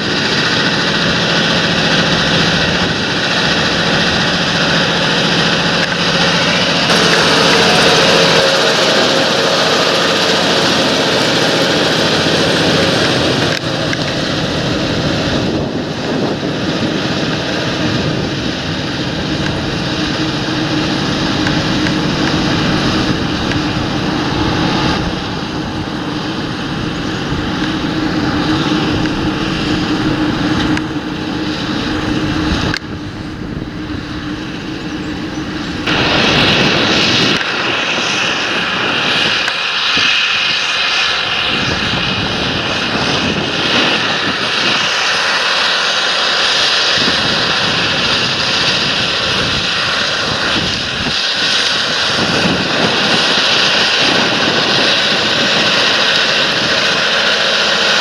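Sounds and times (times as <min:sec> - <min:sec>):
tractor engine droning under load: 0:00.0 - 0:58.0.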